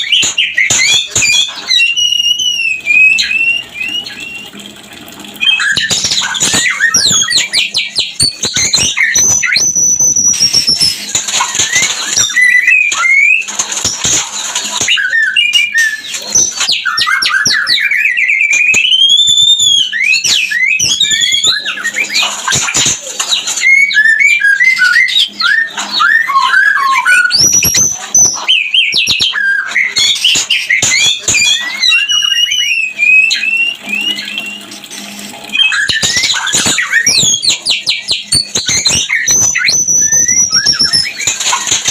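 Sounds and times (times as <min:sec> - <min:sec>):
bird singing whistled phrases: 0:00.0 - 0:04.6, 0:05.4 - 0:13.5, 0:14.8 - 0:41.9.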